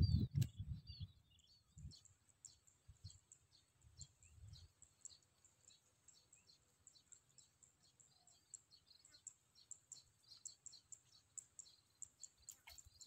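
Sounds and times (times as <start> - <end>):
faint high-pitched chirps: 0.0 - 13.0.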